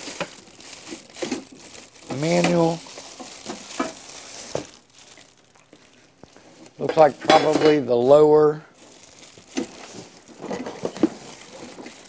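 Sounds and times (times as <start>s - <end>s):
packaging rustling: 0.0s - 7.6s, 8.7s - 12.0s.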